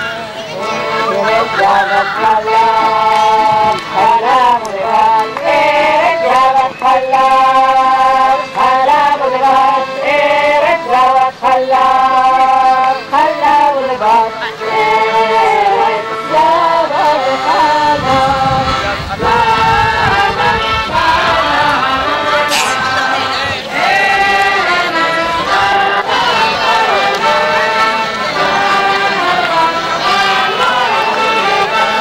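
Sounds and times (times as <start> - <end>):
group of voices singing: 0.0 - 32.0.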